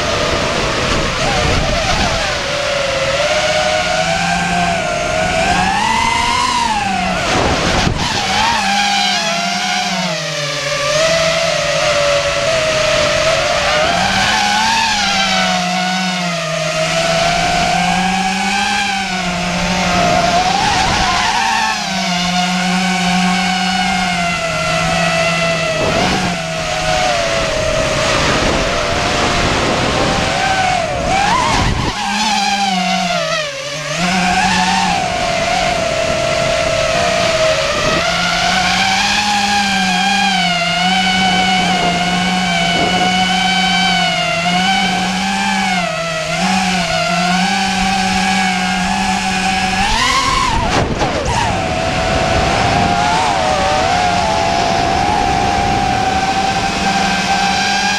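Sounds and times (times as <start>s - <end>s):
quadcopter motors whining: 0.0s - 57.9s.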